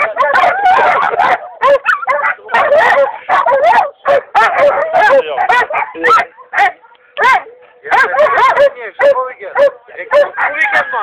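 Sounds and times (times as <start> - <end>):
dogs barking and yelping: 0.0 - 11.0.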